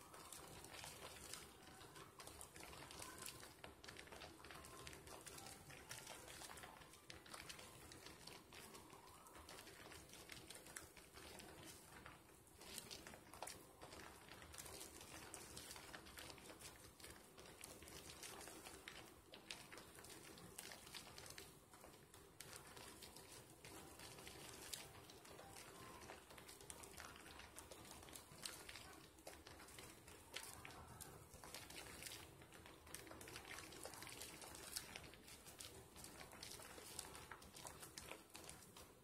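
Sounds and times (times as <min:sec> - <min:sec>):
soap lather squishing and crackling: 0:00.0 - 0:39.0.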